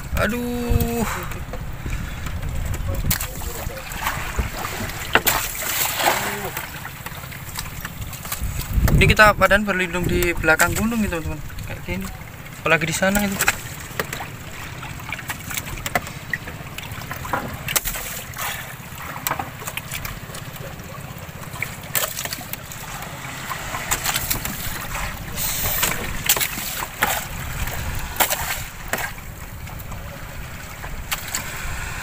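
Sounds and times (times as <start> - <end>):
boat engine running: 0.0 - 32.0
waves splashing against hull: 0.0 - 32.0.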